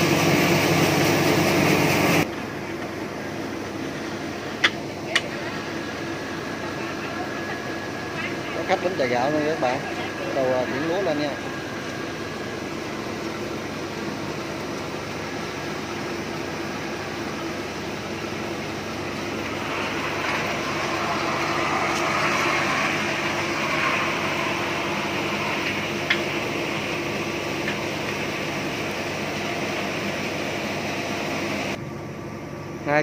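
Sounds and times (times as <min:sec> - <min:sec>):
milling machinery whirring: 0:00.0 - 0:31.8.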